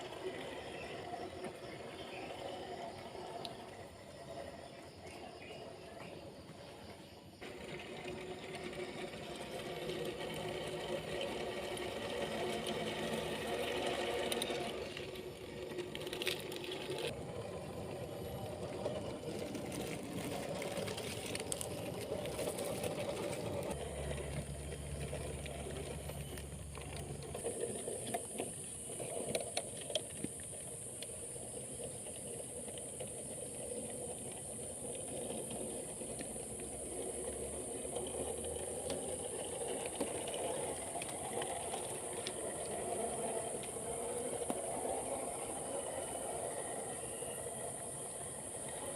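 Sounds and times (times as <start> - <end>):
toy car electric motor whirring: 7.4 - 48.9.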